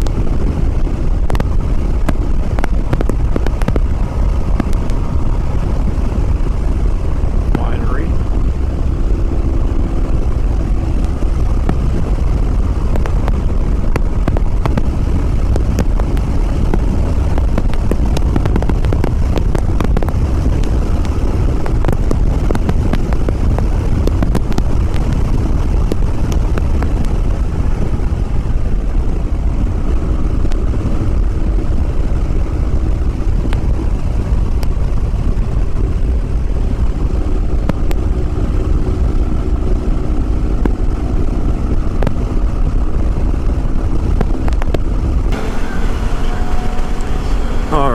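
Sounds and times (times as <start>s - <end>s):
heavy wind on microphone: 0.0s - 47.9s
motorcycle engine cruising: 0.0s - 47.9s
road rumble: 0.0s - 47.9s.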